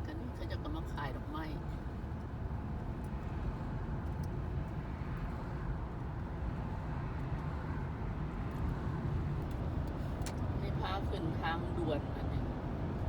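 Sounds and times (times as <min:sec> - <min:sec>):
car interior road and engine rumble: 0:00.0 - 0:06.6, 0:08.5 - 0:13.0.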